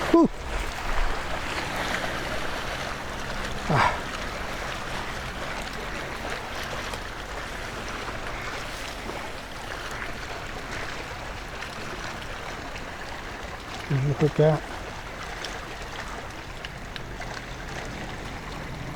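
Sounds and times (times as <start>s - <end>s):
water around a kayak: 0.0s - 18.9s
wind: 0.0s - 18.9s.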